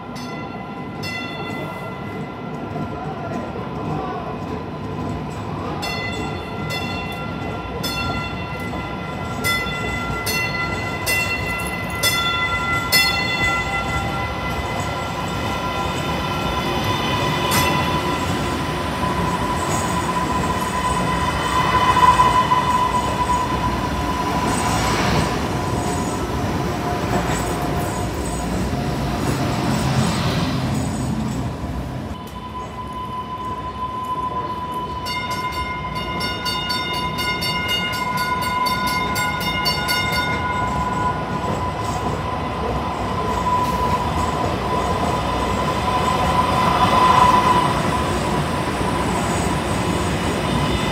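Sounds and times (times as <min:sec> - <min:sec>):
light-rail train running: 0:00.0 - 0:50.9.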